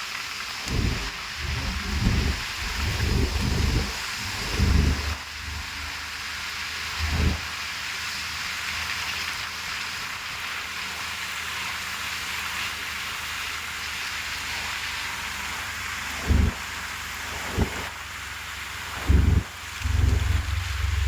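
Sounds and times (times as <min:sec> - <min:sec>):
heavy rain falling: 0:00.3 - 0:21.0.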